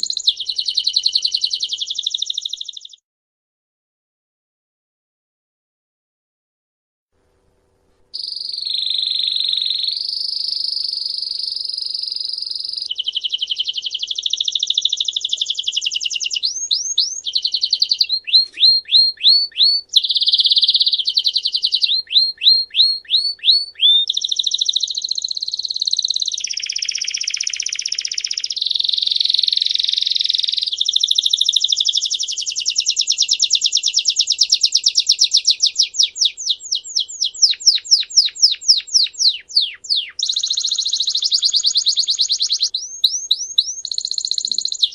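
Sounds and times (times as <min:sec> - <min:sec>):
songbird singing trills and whistles: 0:00.0 - 0:03.0, 0:08.2 - 0:44.9.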